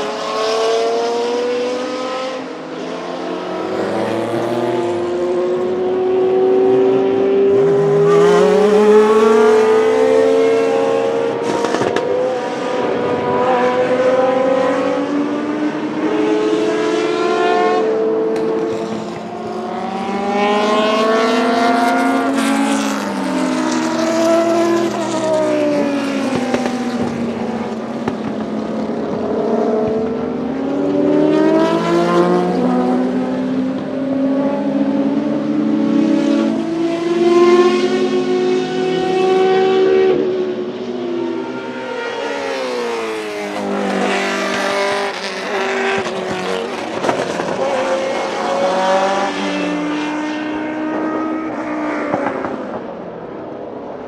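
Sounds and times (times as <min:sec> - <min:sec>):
race car engines passing: 0:00.0 - 0:54.0.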